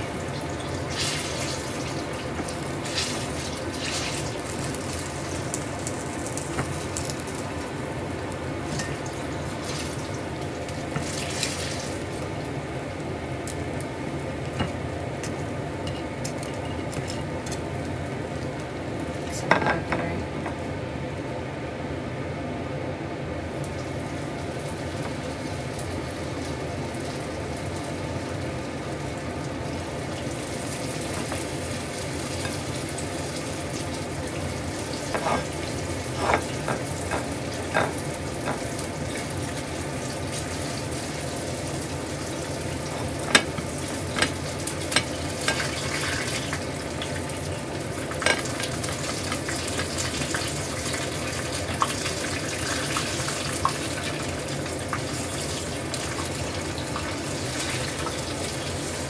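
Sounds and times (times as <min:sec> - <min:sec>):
food sizzling in hot oil: 0:00.0 - 0:19.8, 0:23.5 - 0:59.0.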